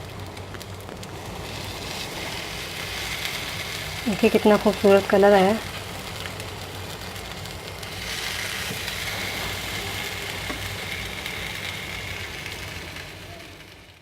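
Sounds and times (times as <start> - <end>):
low steady hum: 0.0 - 14.0
toast sizzling in butter: 0.0 - 14.0.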